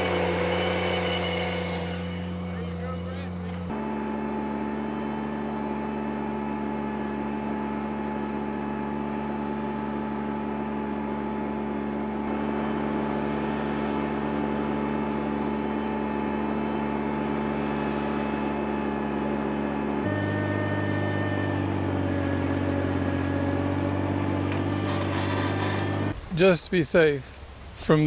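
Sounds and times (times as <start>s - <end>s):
tractor engine running under load: 0.0s - 26.2s
power rake churning soil: 0.0s - 26.6s.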